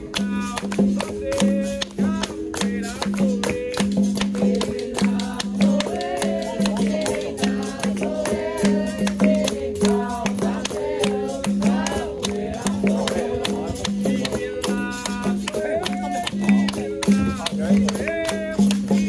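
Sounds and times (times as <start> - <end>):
jingling pandeiro: 0.0 - 19.0
shaken rattle: 0.0 - 19.0
voices singing chorus: 0.0 - 19.0.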